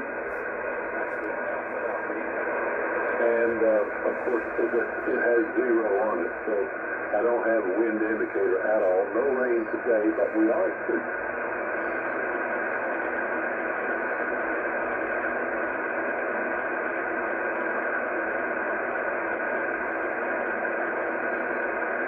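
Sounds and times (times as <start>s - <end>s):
radio receiver band noise hiss: 0.0s - 22.0s.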